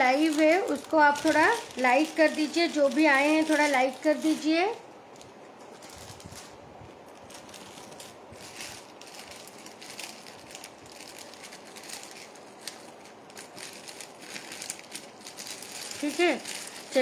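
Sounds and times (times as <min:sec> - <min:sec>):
faint rustling and handling: 0:00.0 - 0:17.0.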